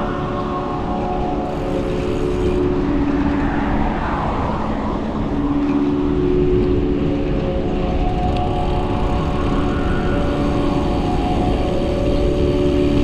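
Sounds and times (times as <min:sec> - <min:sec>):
steady hum: 0:00.0 - 0:13.0
wind buffeting microphone: 0:00.0 - 0:13.0.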